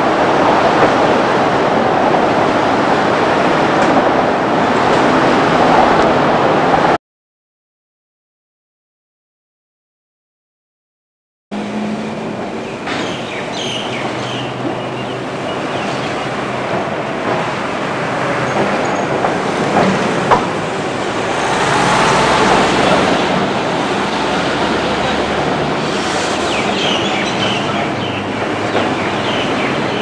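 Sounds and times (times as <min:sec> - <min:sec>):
tram wheels rumbling on rails: 0:00.0 - 0:07.0, 0:11.6 - 0:30.0.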